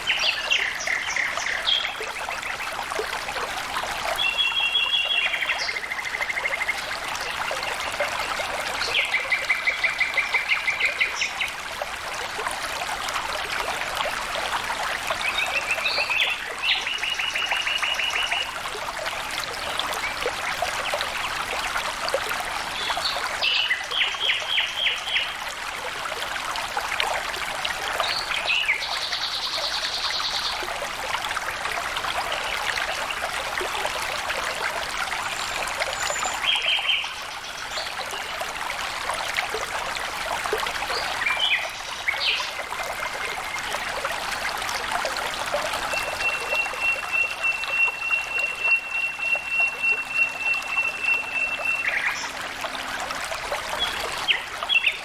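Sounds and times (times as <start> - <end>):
water flowing in a stream: 0.0 - 55.0.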